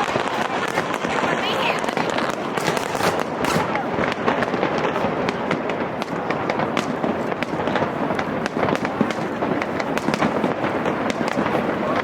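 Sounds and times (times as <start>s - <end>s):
fireworks bursts and cracks: 0.0s - 12.0s.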